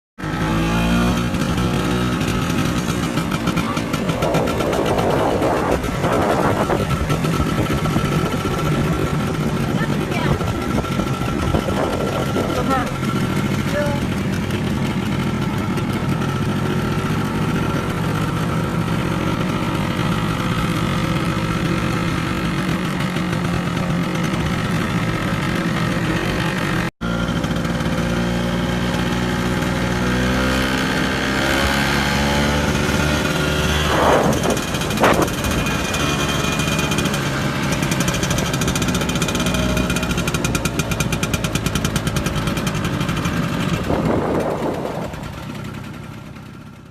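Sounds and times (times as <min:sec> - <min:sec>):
scooter engine running: 0:00.2 - 0:46.9.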